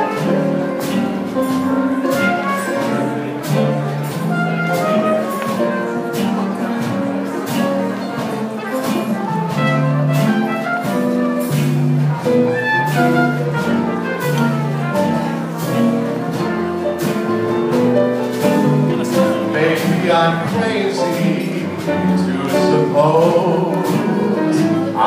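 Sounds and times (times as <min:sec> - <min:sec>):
instrumental ballad music: 0:00.0 - 0:25.0.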